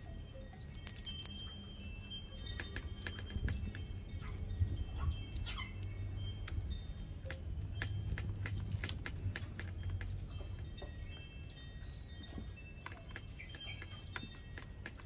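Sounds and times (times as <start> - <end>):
high ringing tones: 0.0 - 8.4, 9.2 - 14.8.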